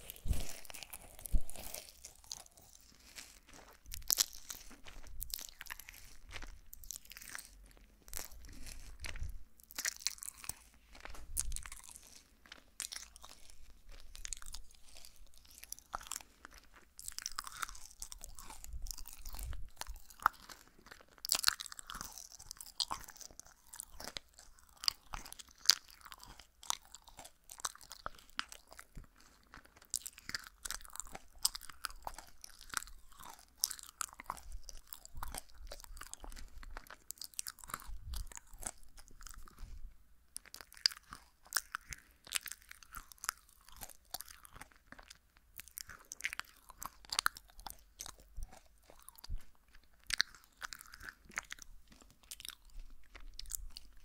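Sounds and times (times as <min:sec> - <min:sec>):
chewing jelly candies: 0:00.0 - 0:54.0.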